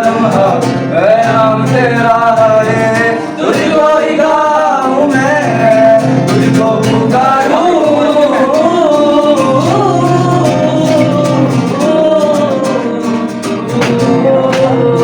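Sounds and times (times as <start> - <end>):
backing music: 0.0 - 15.0.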